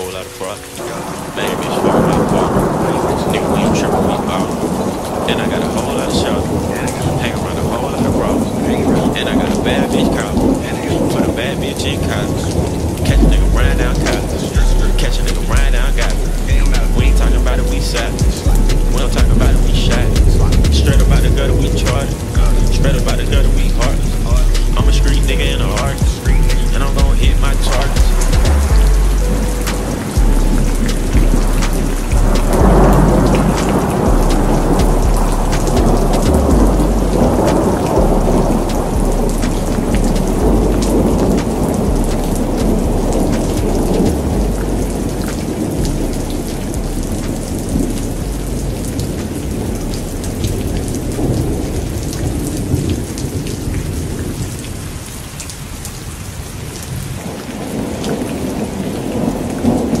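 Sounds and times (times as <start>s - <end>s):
heavy rain: 0.0s - 60.0s
rumbling thunder: 0.8s - 60.0s.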